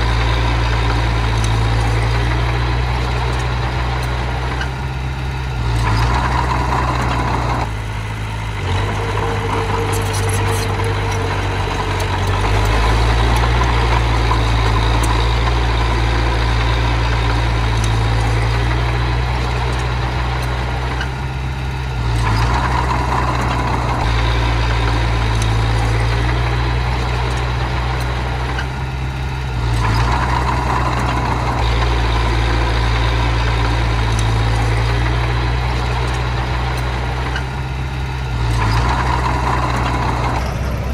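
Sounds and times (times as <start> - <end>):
small bulldozer engine running: 0.0 - 40.9.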